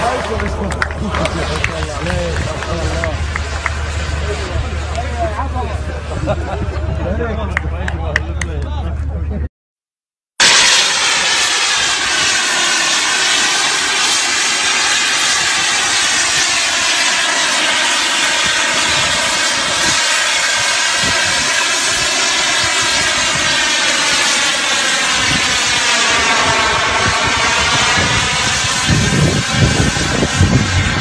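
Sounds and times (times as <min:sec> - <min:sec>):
jet engine roaring: 0:00.0 - 0:08.2, 0:10.4 - 0:31.0.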